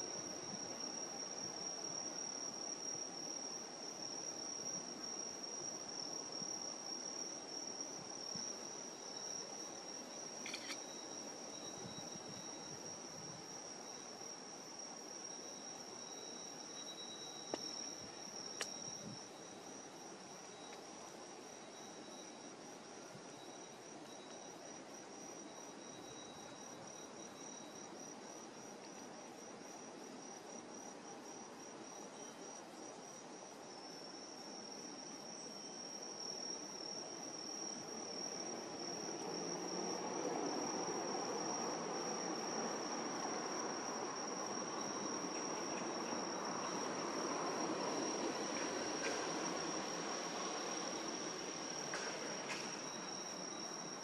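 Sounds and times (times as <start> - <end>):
crickets trilling: 0.0 - 54.0
lower insect trill: 0.0 - 54.0.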